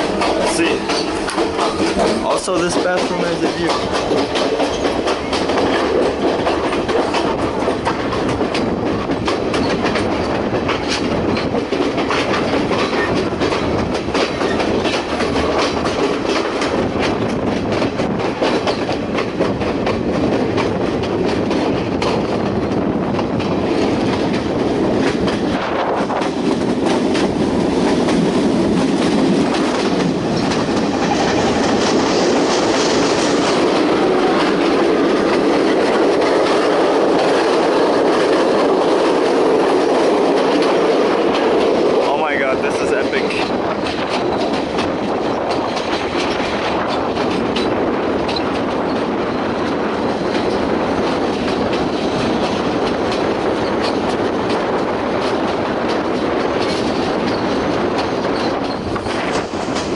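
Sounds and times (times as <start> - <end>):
train rumbling on track: 0.0 - 59.9
wheels clattering over rails: 0.0 - 59.9.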